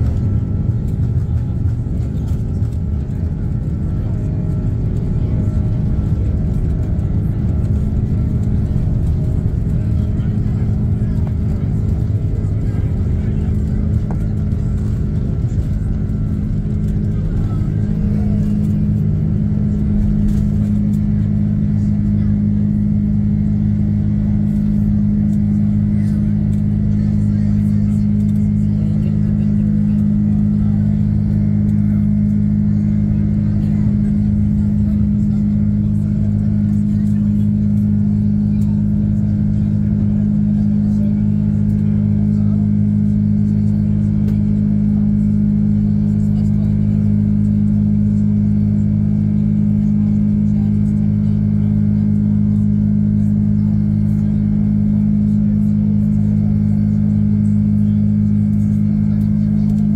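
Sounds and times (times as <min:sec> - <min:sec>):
jet engine drone in cabin: 0:00.0 - 0:59.9.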